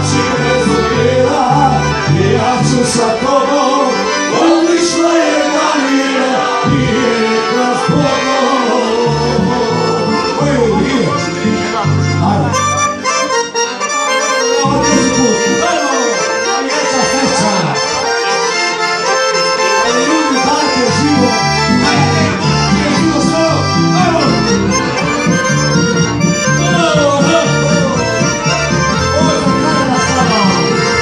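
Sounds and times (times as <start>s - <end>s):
accordions and keyboard playing: 0.0s - 31.0s.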